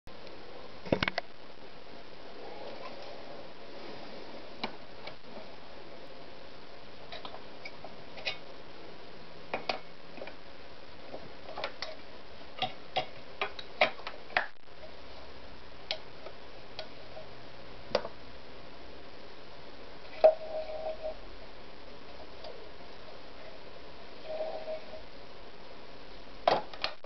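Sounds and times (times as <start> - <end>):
steady hiss: 0.1 - 27.0.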